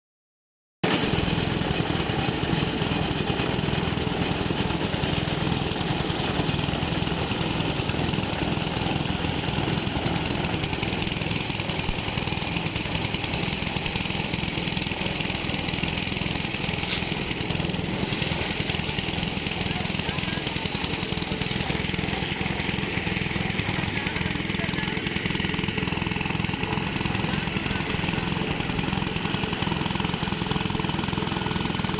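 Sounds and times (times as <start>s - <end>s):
construction machine engine running: 0.8s - 31.9s.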